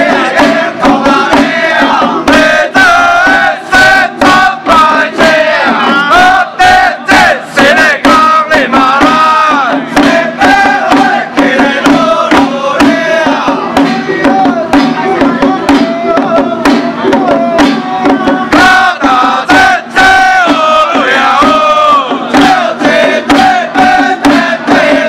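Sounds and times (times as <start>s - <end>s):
group chanting in unison: 0.0s - 25.0s
handheld drums beating: 0.0s - 25.0s.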